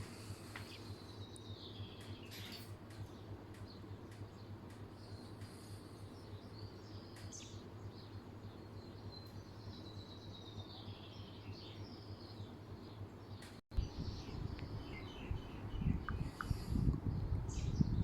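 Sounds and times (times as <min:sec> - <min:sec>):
birds chirping and twittering: 0:00.0 - 0:18.0
steady low hum: 0:00.0 - 0:18.0.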